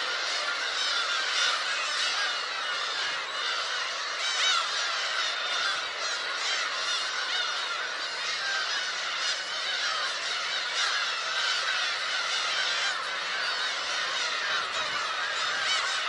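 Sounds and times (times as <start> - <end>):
gull colony calling: 0.0 - 16.0.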